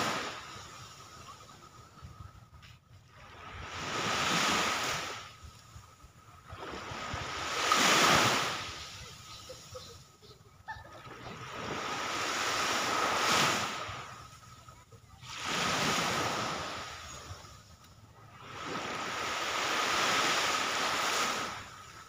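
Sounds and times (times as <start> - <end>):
sea waves breaking on beach: 0.0 - 2.0, 3.1 - 22.0.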